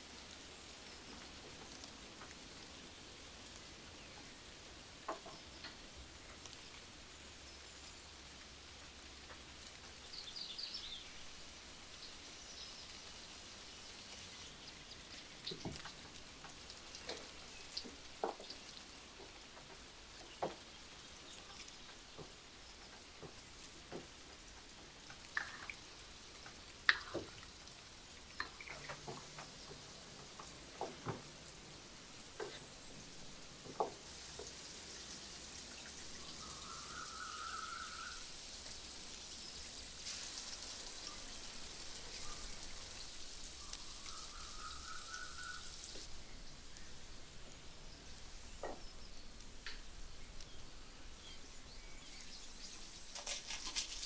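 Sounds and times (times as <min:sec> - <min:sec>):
high sizzle: 0:00.0 - 0:54.0.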